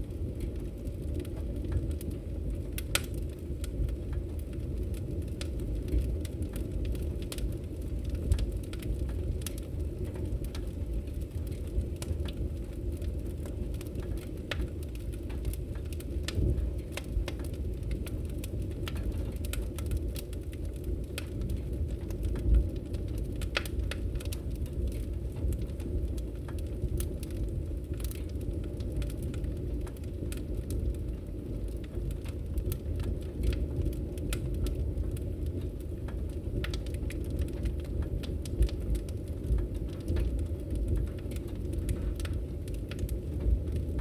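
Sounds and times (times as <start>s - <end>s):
fire crackling and popping: 0.0s - 44.0s.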